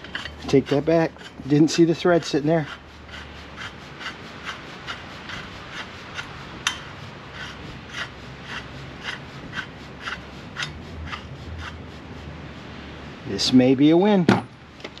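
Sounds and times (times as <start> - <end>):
threads rasping rub: 0.0 - 12.8.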